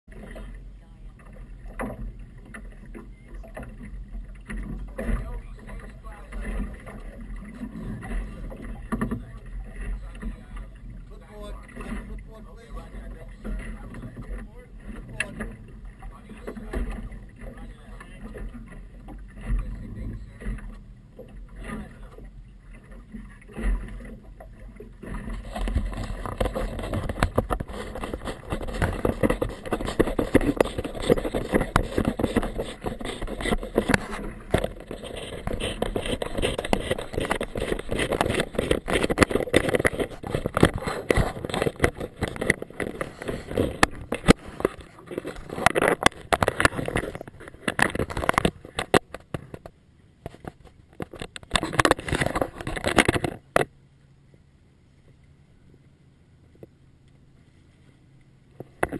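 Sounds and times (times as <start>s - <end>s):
choppy water against boat: 0.0s - 58.9s
wind: 0.0s - 58.9s
knocks and scrapes: 1.2s - 22.2s, 22.8s - 53.7s, 58.6s - 58.9s.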